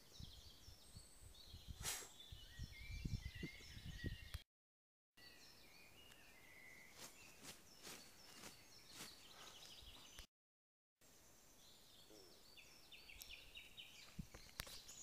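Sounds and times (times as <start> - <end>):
birds chirping: 0.0 - 4.4, 5.2 - 10.3, 11.0 - 15.0.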